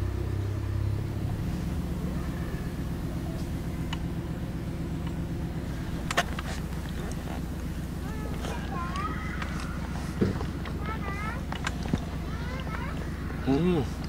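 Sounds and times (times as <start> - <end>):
low engine-like hum: 0.0 - 14.0.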